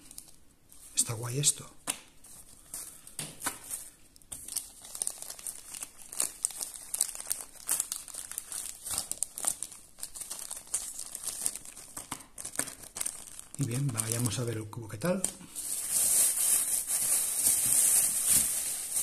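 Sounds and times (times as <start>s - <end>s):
plastic bag crinkling: 3.6s - 19.0s.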